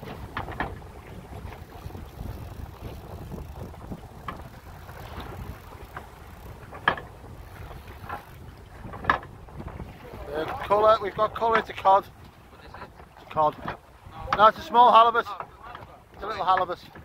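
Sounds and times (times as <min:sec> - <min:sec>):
sea water washing against hull: 0:00.0 - 0:17.0
wind buffeting microphone: 0:00.0 - 0:17.0.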